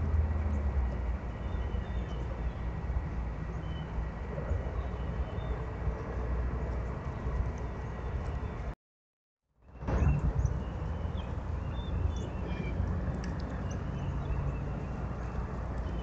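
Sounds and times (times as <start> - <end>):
low outdoor rumble: 0.0 - 8.8, 9.6 - 16.0.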